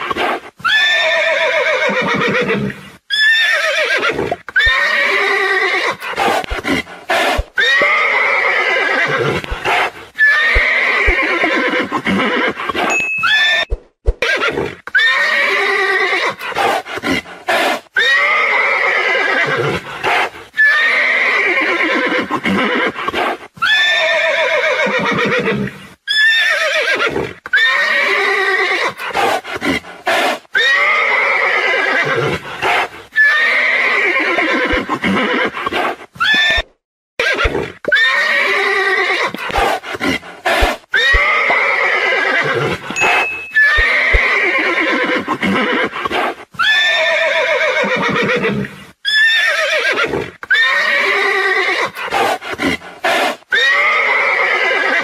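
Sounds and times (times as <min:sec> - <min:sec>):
horse neighing: 0:00.6 - 0:16.8, 0:17.6 - 0:19.8, 0:20.6 - 0:23.0, 0:23.6 - 0:29.0, 0:30.6 - 0:46.0, 0:46.6 - 0:52.2, 0:53.5 - 0:55.0.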